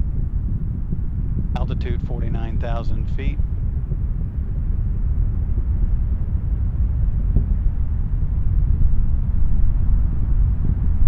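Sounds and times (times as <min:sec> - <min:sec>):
rocket engines deep rumble: 0:00.0 - 0:11.0.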